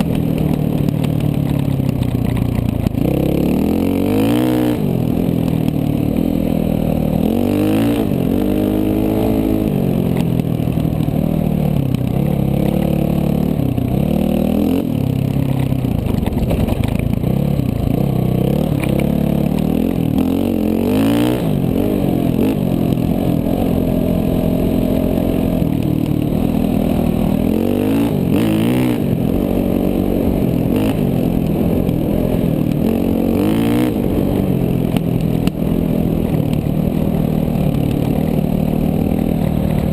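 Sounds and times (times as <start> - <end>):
dirt bike engine revving: 2.8 - 10.2, 11.0 - 15.6, 16.5 - 39.9.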